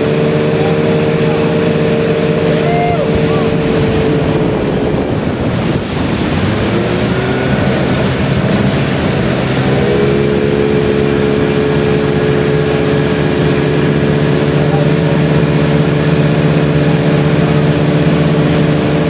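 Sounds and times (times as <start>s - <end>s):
boat engine running: 0.0s - 19.0s
churning wake rushing: 0.0s - 19.0s
wind on microphone: 0.0s - 19.0s.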